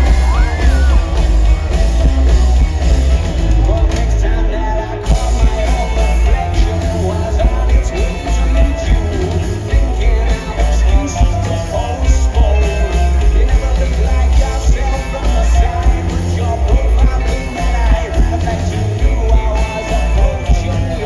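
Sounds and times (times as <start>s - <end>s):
drums keeping a beat: 0.0s - 21.0s
electric guitars: 0.0s - 21.0s
heavy bass: 0.0s - 21.0s.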